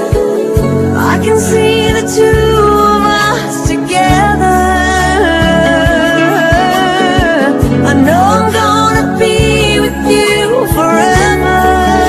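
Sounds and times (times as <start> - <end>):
person singing: 0.0 - 12.0
sustained bass notes: 0.6 - 12.0.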